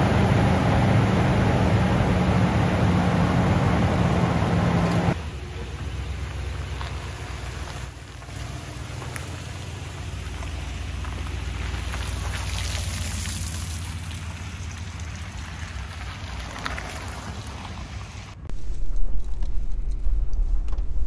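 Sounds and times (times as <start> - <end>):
vehicle driving rumble: 0.0 - 21.0.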